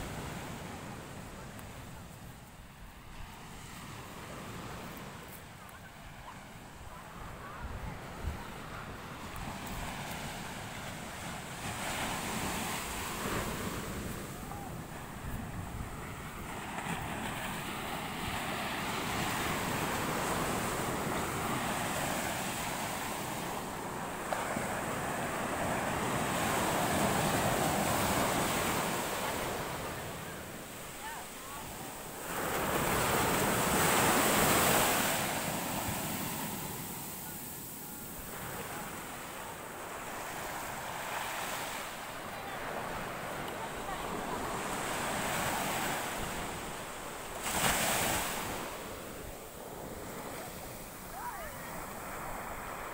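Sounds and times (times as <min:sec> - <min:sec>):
waves washing up a beach: 0:00.0 - 0:52.9.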